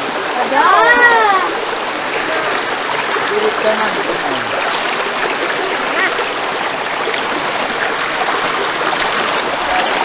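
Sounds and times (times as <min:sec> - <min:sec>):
river flowing: 0:00.0 - 0:10.0.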